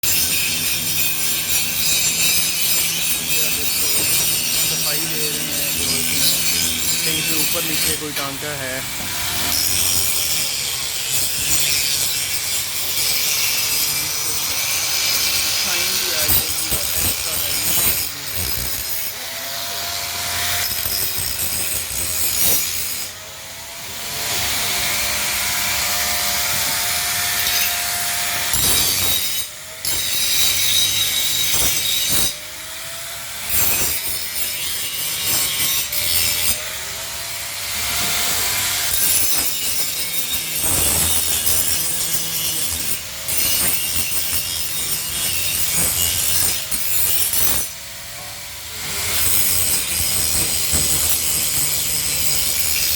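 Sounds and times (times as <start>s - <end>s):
angle grinder on steel: 0.0s - 52.9s.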